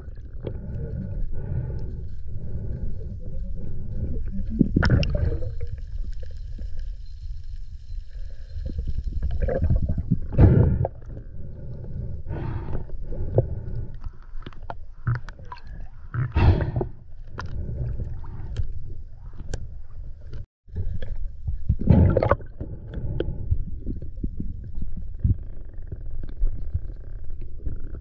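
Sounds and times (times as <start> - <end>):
underwater rumble of moving water: 0.0 - 28.0.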